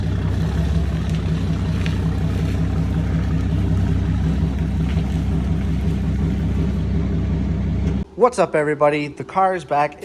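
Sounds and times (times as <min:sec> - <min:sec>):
engine idling: 0:00.0 - 0:08.1.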